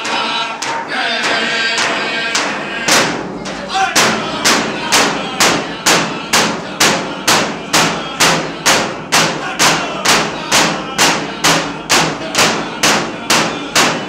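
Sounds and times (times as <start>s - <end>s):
frame drums struck with sticks: 0.0s - 14.0s
voices singing: 0.0s - 14.0s.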